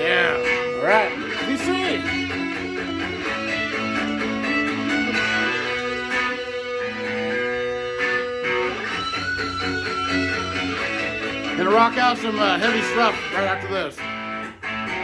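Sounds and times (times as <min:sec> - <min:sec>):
guitar rock music from a record: 0:00.0 - 0:15.0.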